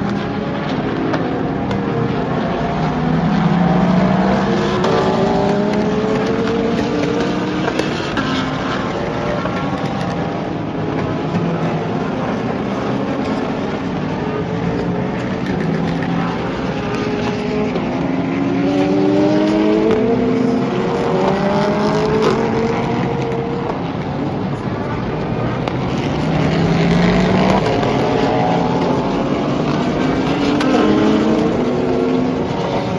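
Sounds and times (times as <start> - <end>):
race cars passing: 0.0 - 32.9.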